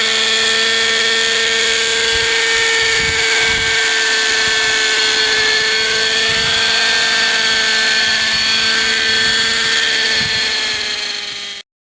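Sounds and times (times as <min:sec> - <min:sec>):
model helicopter engine whining: 0:00.0 - 0:11.7.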